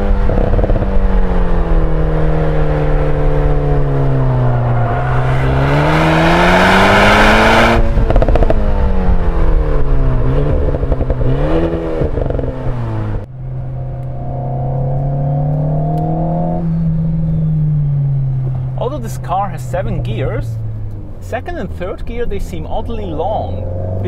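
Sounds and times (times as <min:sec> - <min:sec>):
car engine revving: 0:00.0 - 0:24.0
exhaust crackles: 0:00.0 - 0:24.0.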